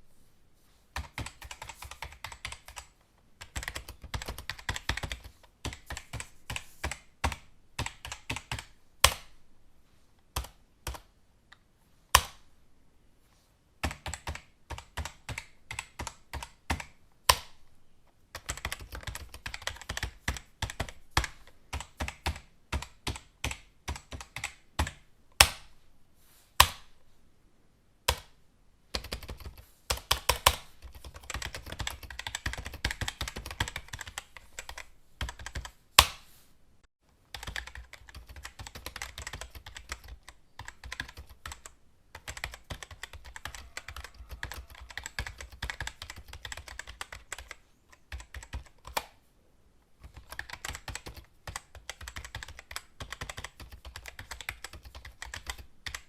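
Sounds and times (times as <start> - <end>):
keyboard typing: 1.0 - 9.4, 13.8 - 17.6, 18.3 - 25.7, 28.1 - 36.1, 37.3 - 49.2, 50.0 - 56.0.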